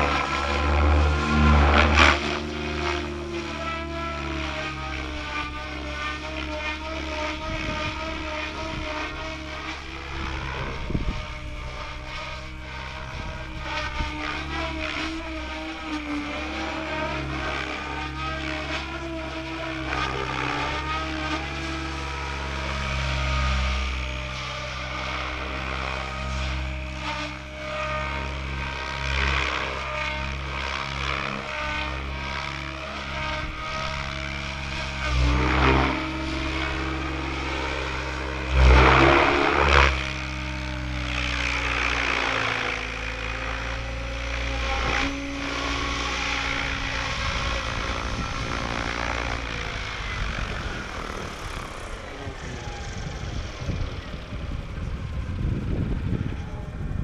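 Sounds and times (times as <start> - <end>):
model helicopter rotor drone: 0.0 - 57.0.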